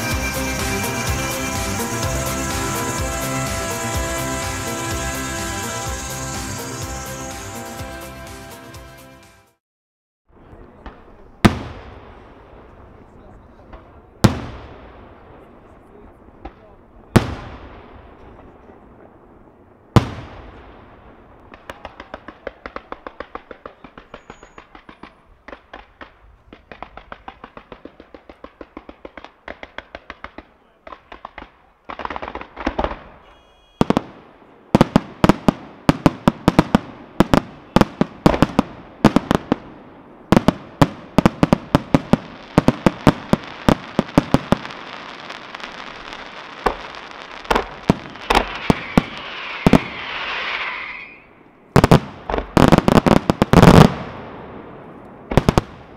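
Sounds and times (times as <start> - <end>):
rapid fireworks bangs: 0.0 - 7.9, 10.3 - 55.9
fireworks bangs: 0.0 - 8.6, 10.3 - 55.9.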